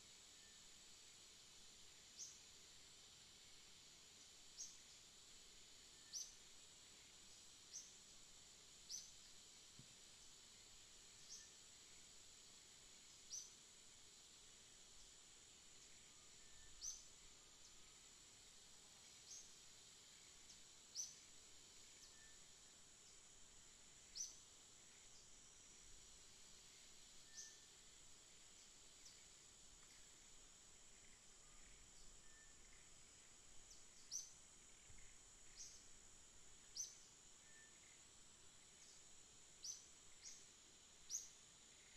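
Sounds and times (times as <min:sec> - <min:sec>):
high insect drone: 0:00.0 - 0:41.9.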